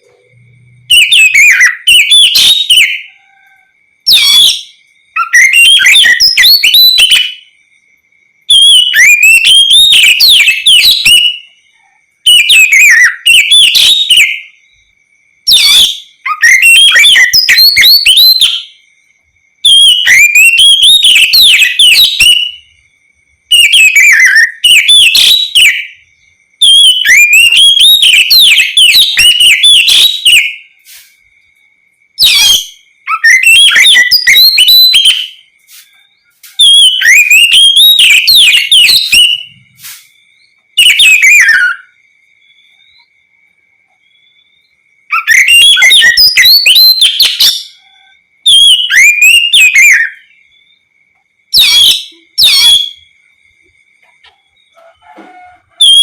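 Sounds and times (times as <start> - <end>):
bird singing whistled phrases: 0.0 - 7.6, 8.5 - 11.6, 12.3 - 14.6, 15.5 - 18.9, 19.6 - 22.8, 23.5 - 26.0, 26.6 - 31.3, 32.2 - 43.1, 44.0 - 50.6, 51.6 - 53.1.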